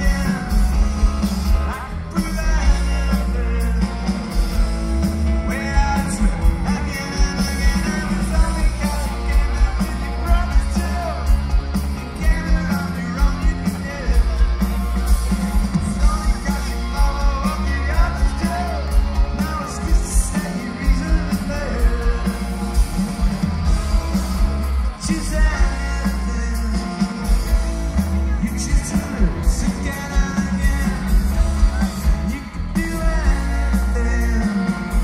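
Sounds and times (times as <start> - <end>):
man singing: 0.0 - 14.8, 15.6 - 22.6, 24.9 - 27.5, 28.2 - 35.0
driving drum beat: 0.0 - 35.0
guitars: 0.0 - 35.0
heavy bass: 0.0 - 35.0.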